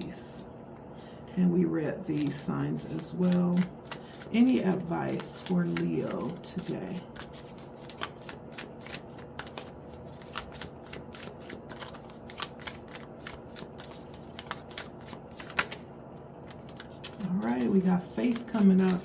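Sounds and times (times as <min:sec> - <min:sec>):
cards being shuffled: 0:02.2 - 0:19.0.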